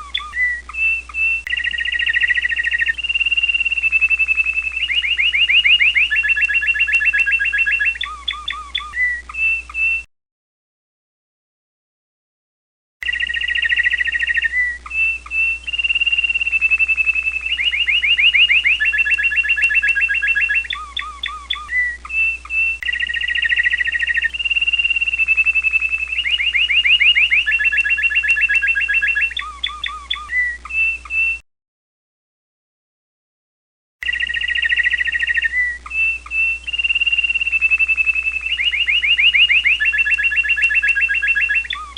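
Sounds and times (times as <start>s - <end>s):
canary singing trills and chirps: 0.0s - 10.1s, 13.0s - 31.4s, 34.0s - 41.9s.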